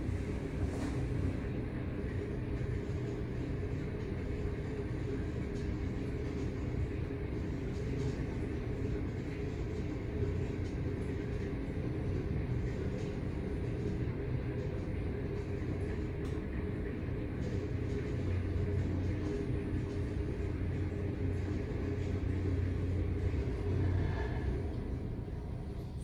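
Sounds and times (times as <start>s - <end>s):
lift humming and rumbling: 0.0s - 26.0s.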